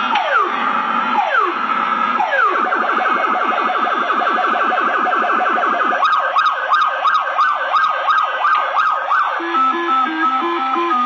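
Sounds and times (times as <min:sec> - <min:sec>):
electronic siren-like wail: 0:00.0 - 0:11.0.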